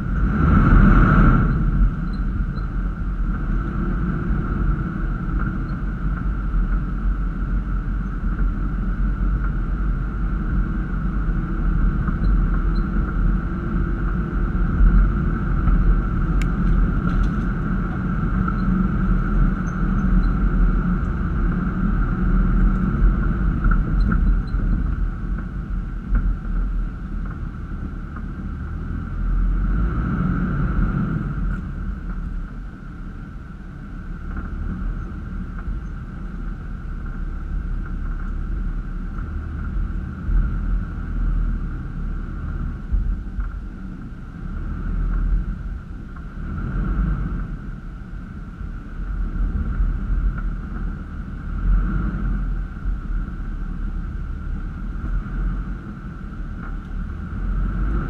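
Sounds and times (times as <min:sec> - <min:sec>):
high whine: 0:00.0 - 0:58.0
vehicle engine and drivetrain: 0:00.0 - 0:58.0.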